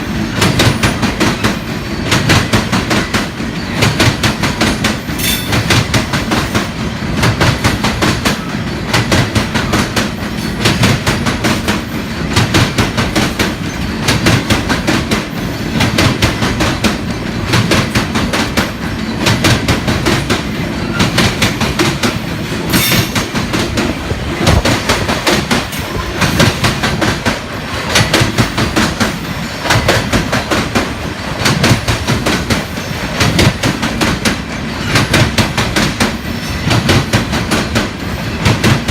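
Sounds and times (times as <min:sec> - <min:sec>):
train wheels clicking on rail joints: 0:00.0 - 0:38.9.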